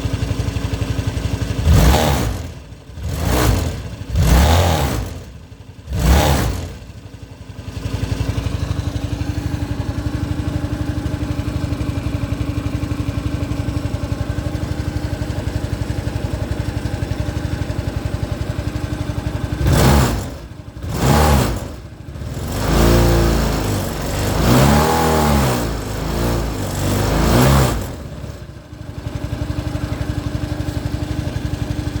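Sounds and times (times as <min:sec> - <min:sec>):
scooter engine idling and revving: 0:00.0 - 0:32.0.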